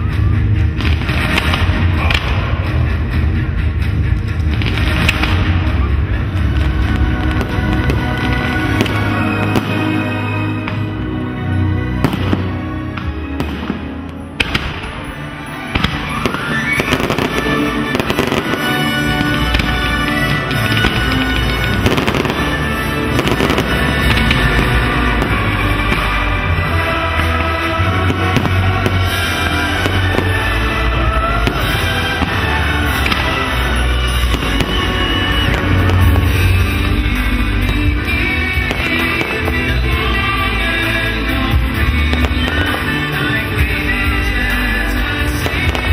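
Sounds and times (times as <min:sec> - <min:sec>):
music with long held notes: 0:00.0 - 0:45.9
fireworks bangs: 0:00.7 - 0:03.2, 0:04.4 - 0:11.1, 0:11.9 - 0:45.9.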